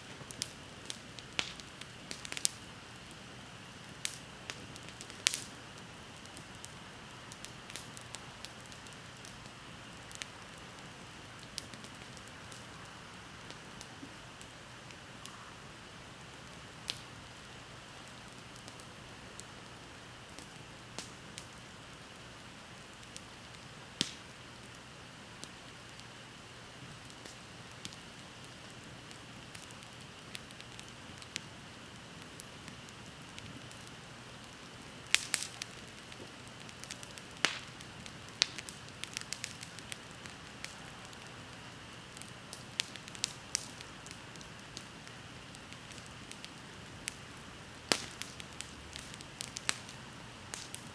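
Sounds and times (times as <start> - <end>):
bonfire crackling: 0.0 - 50.9
faint steady hiss: 0.0 - 50.9.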